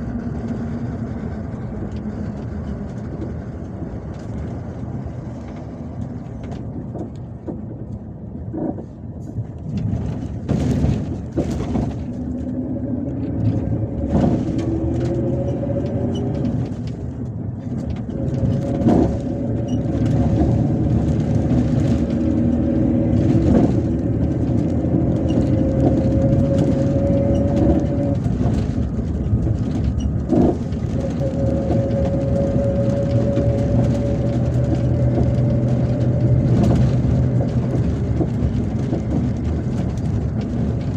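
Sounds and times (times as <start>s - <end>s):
bus engine drone with whine: 0.0s - 40.9s.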